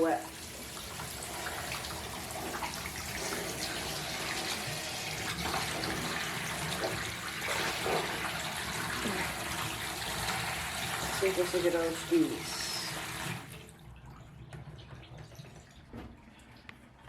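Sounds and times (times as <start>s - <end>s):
water splashing in bathtub: 0.0s - 17.0s.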